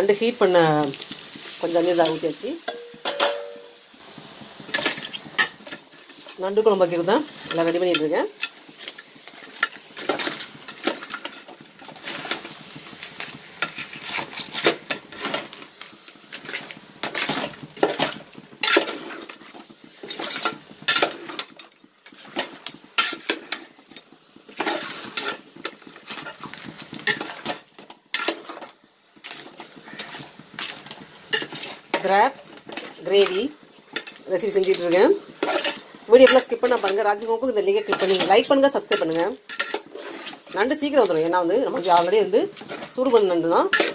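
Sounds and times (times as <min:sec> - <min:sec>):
metal spoon stirring in pot: 0:04.6 - 0:43.9.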